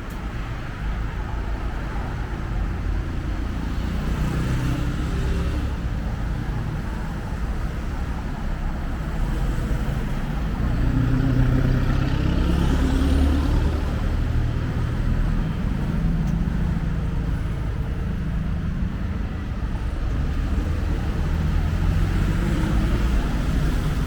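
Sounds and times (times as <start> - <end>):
vehicle engines humming: 0.0 - 24.0.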